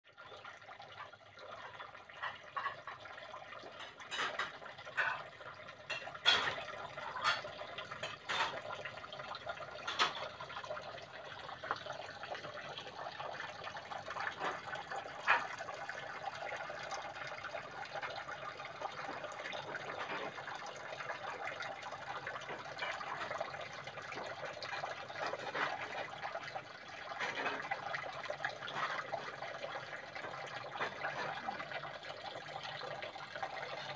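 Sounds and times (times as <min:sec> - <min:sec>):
water trickling into pond: 0:00.0 - 0:33.9.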